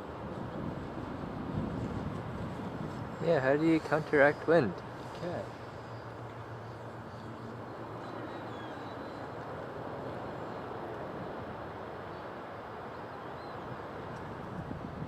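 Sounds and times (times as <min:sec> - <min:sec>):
gusty wind: 0:00.0 - 0:15.0
model airplane engine drone: 0:00.0 - 0:15.0.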